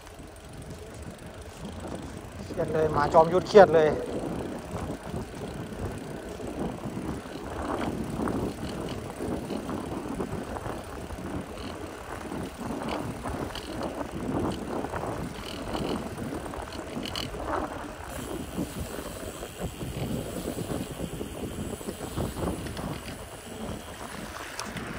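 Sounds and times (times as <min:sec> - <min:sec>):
bicycle clicks: 0:00.0 - 0:24.9
bicycle tyre road noise: 0:00.0 - 0:24.9.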